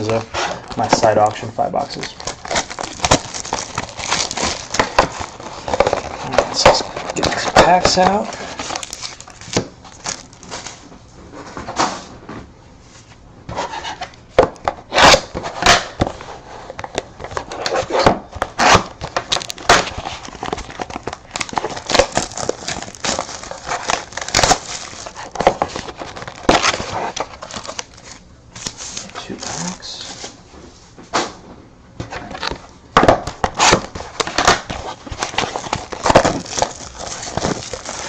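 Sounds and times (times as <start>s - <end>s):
wrappers and cardboard crinkling: 0.0s - 12.0s, 14.9s - 30.4s, 32.1s - 38.0s.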